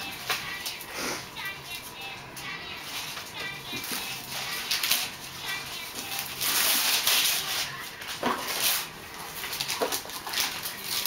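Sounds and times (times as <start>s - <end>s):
wrapping paper rustling and tearing: 0.0s - 11.0s.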